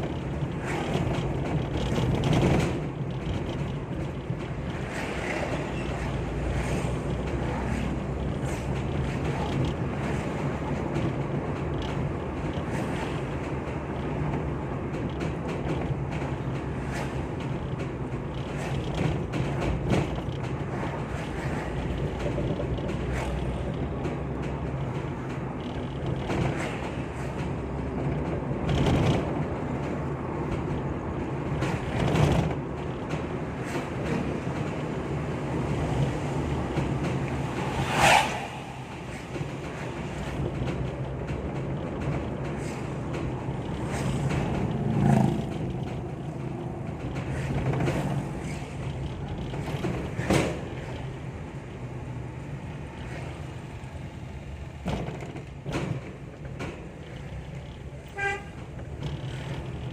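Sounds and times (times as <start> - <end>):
vehicle road and engine rumble: 0.0 - 59.9.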